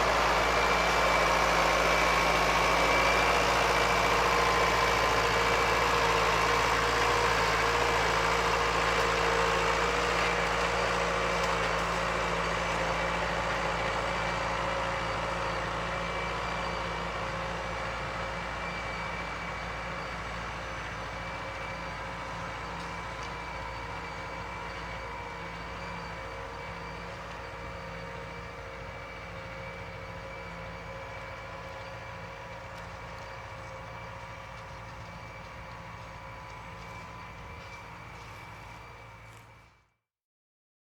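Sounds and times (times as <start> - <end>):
tractor engine droning: 0.0 - 39.8.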